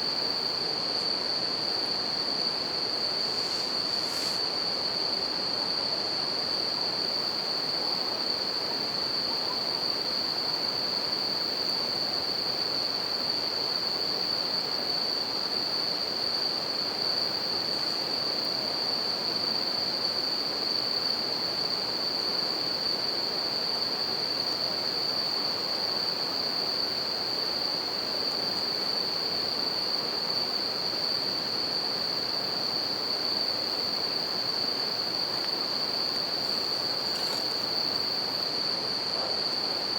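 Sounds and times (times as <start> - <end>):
crickets singing: 0.0 - 39.9.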